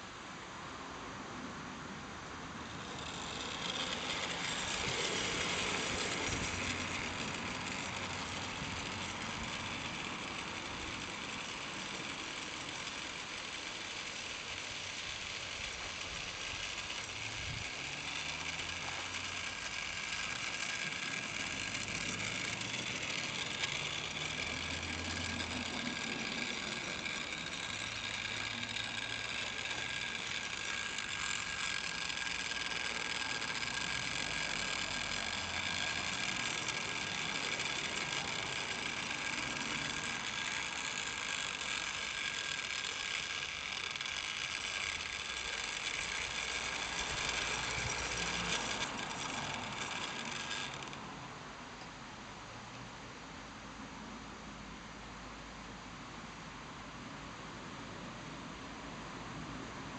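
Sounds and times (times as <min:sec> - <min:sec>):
model locomotive motor whirring: 0:00.0 - 0:52.0
wheels rumbling on rails: 0:02.3 - 0:51.4.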